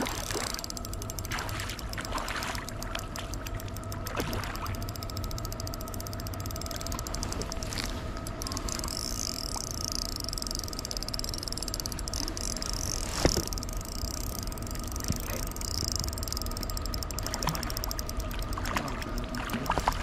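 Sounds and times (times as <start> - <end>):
faint ticks: 0.0 - 20.0.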